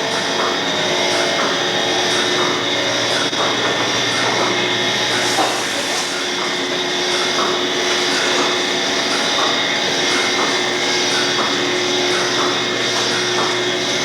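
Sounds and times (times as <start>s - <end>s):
milking machine vacuum running: 0.0s - 14.0s.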